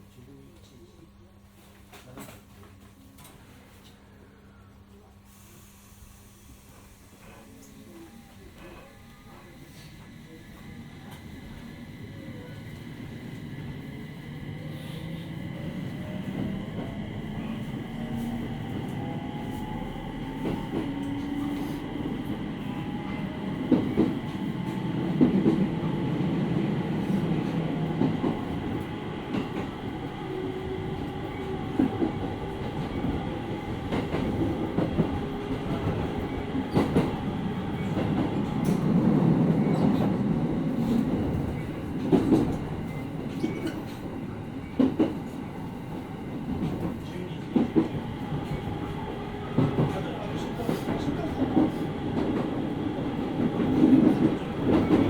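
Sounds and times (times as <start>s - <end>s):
train running noise: 8.5s - 55.0s.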